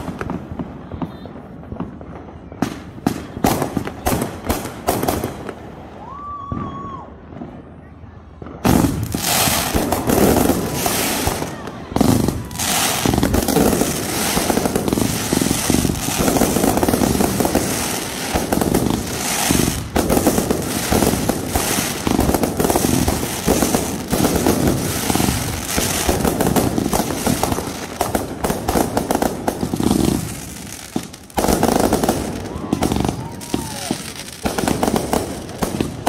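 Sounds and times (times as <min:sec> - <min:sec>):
fireworks popping and crackling: 0:00.0 - 0:36.0.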